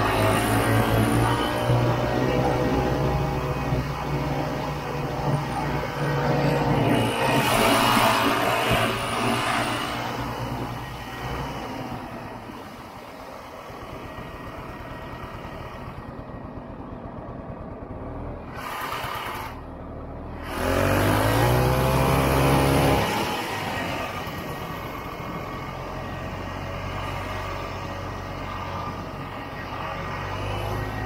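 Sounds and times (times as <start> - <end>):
snowmobile engine revving: 0.0 - 13.1, 18.4 - 19.7, 20.3 - 31.0.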